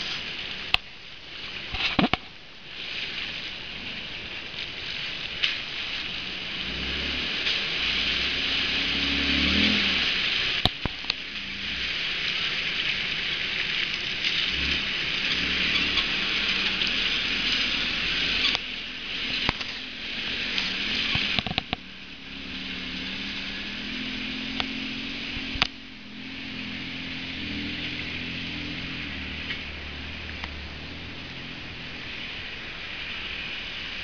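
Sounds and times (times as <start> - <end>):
steady high hiss: 0.0 - 34.0
truck engine running at low speed: 0.0 - 34.0.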